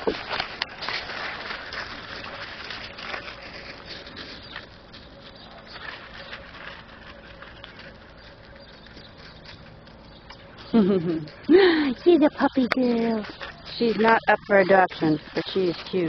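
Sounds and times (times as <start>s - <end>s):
gravel crunching underfoot: 0.0s - 16.0s.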